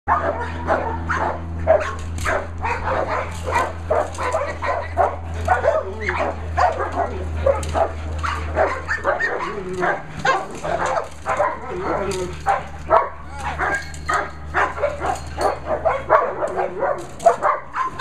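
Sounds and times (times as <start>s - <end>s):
dog barking rapidly: 0.1s - 18.0s.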